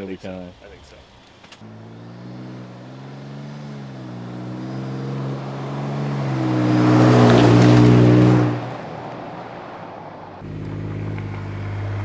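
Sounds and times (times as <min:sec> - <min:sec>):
quieter engine note: 0:00.0 - 0:12.0
truck exhaust driving past: 0:00.6 - 0:12.0.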